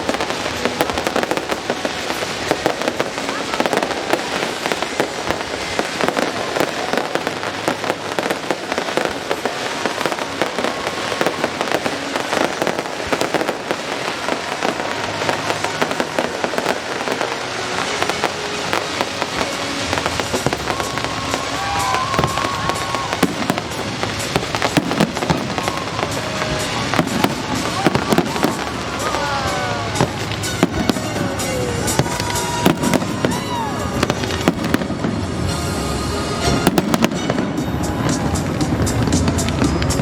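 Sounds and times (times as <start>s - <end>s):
fireworks crackling and banging: 0.0s - 40.0s.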